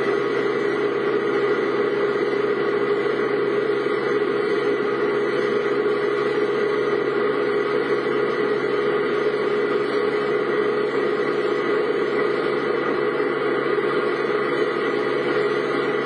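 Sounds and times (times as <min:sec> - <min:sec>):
road noise: 0:00.0 - 0:16.0
vehicle engine running: 0:00.0 - 0:16.0.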